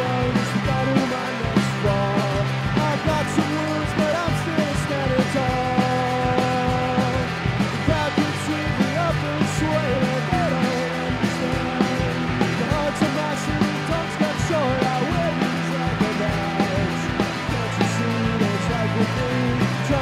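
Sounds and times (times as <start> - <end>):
drum kit beat: 0.0 - 20.0
electric bass: 0.0 - 20.0
electric guitar: 0.0 - 20.0
man singing: 0.0 - 20.0.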